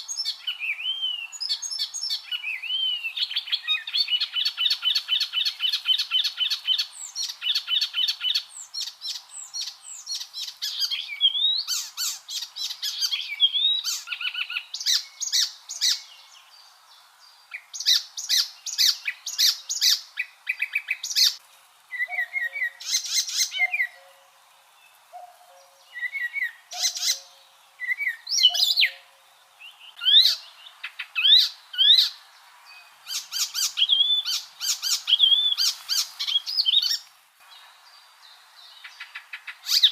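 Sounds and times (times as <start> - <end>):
warbler singing: 0.0 - 39.9.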